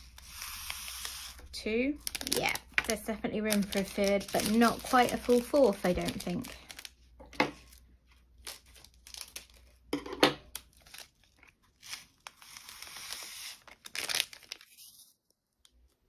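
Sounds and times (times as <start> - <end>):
plastic bag crinkling: 2.0 - 15.2.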